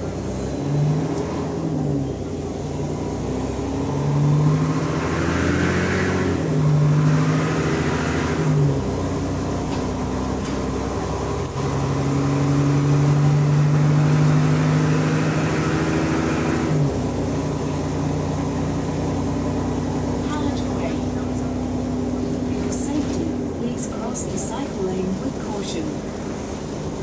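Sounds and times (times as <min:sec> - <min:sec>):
bus diesel engine drone: 0:00.0 - 0:27.0.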